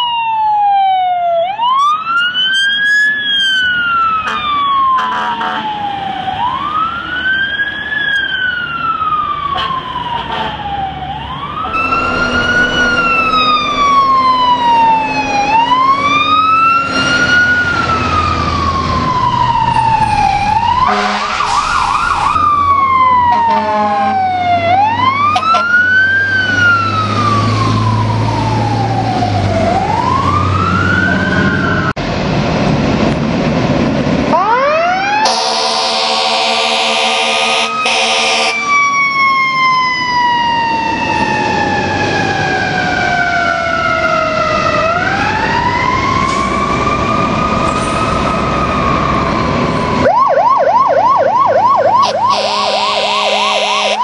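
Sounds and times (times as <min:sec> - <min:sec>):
rapid siren warble: 0:00.0 - 0:31.9, 0:34.4 - 0:54.0
fire truck sirens wailing: 0:00.0 - 0:54.0.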